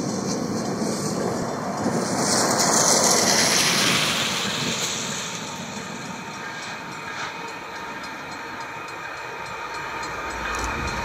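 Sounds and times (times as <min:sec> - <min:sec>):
distant freight train rumble: 0:00.0 - 0:11.0
rushing noise: 0:00.0 - 0:11.0.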